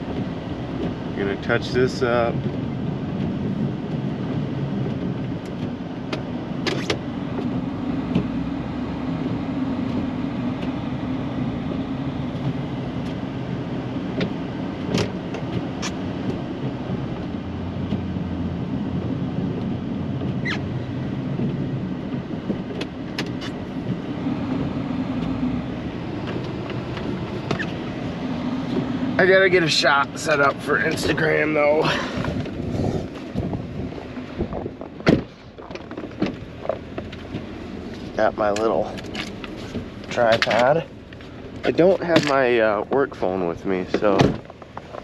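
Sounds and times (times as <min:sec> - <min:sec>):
truck engine humming: 0:00.0 - 0:45.0.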